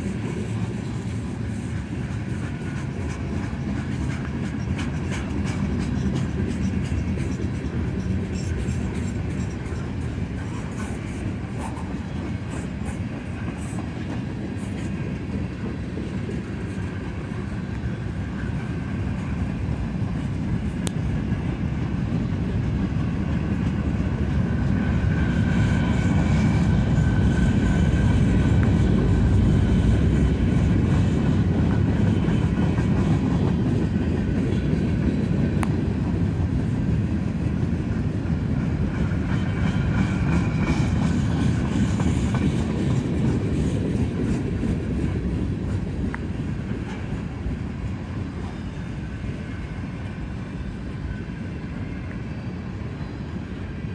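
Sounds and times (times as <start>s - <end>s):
freight train cars rolling past: 0.0s - 53.9s.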